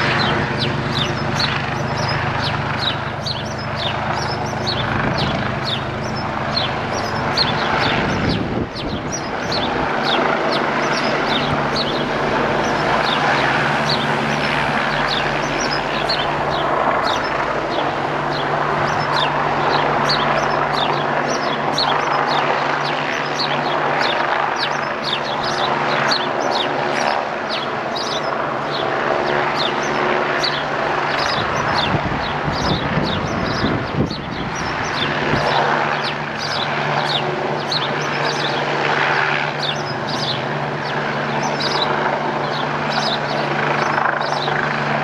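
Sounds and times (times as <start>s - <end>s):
helicopter rotor and turbine drone: 0.0s - 45.0s
small birds chirping: 0.0s - 45.0s.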